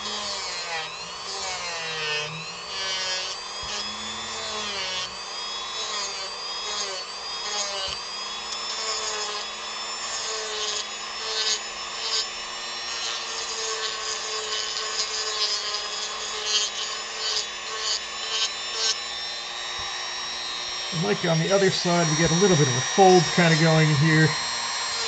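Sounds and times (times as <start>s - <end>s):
rotary tool grinding wood: 0.0s - 25.0s.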